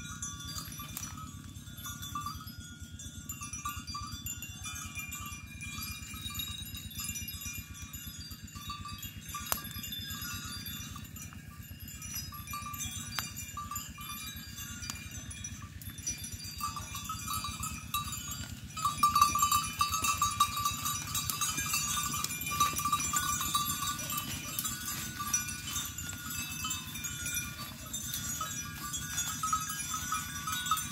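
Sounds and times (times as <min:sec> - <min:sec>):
goats browsing in undergrowth: 0:00.0 - 0:02.4, 0:08.5 - 0:30.9
chorus of high ringing tones: 0:00.0 - 0:30.9.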